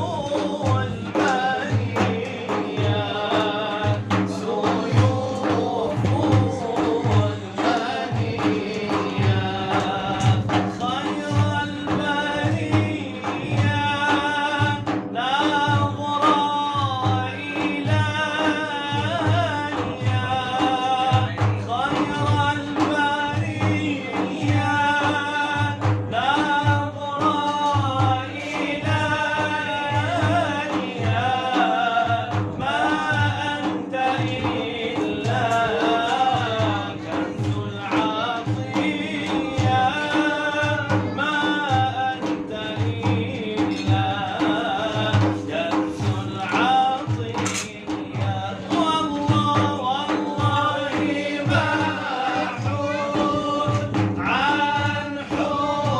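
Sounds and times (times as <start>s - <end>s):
man chanting a religious song: 0.0s - 55.9s
steady low drum beat: 0.0s - 55.9s.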